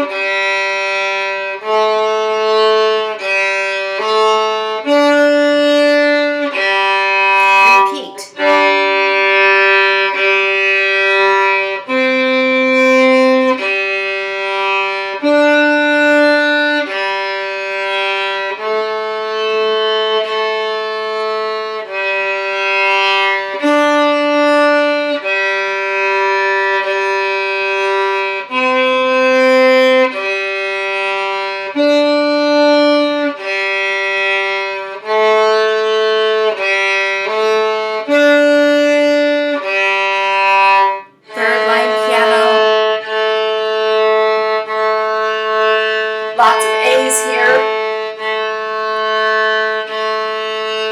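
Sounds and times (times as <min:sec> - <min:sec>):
solo violin melody: 0:00.0 - 0:50.9.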